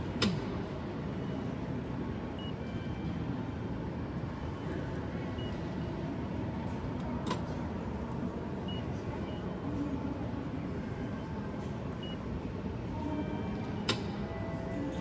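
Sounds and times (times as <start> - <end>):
hum of busy station concourse: 0.0 - 15.0.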